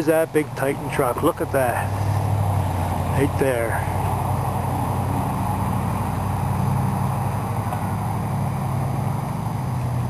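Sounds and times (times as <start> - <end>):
motor idling hum: 0.0 - 10.0.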